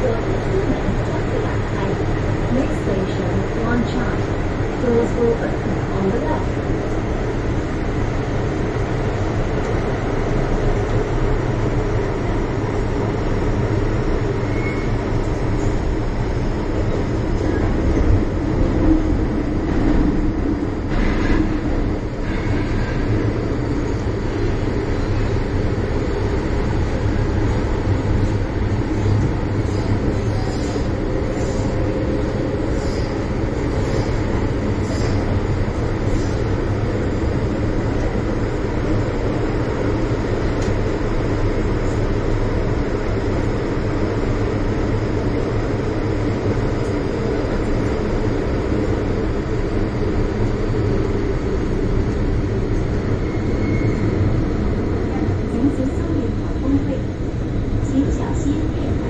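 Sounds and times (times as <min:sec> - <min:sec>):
train motor hum: 0:00.0 - 0:59.0.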